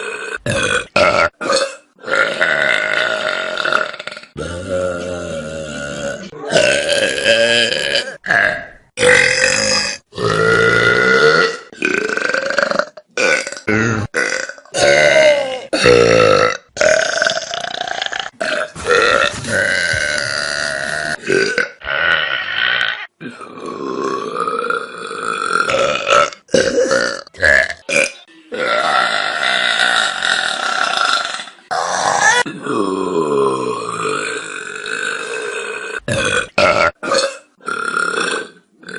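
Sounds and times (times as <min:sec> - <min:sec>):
person burping: 0:00.0 - 0:38.9.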